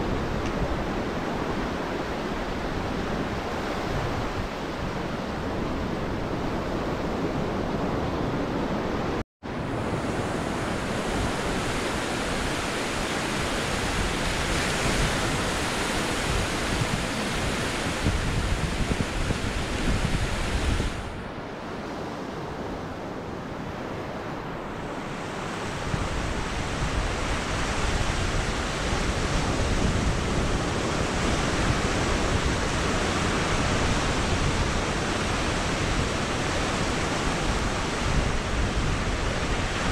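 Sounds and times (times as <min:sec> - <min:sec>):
ocean surf breaking: 0:00.0 - 0:39.9
wind buffeting microphone: 0:00.0 - 0:39.9.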